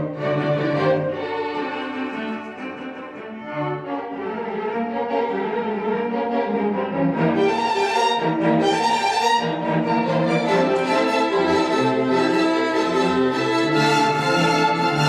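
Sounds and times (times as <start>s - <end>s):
string ensemble playing: 0.0s - 15.0s.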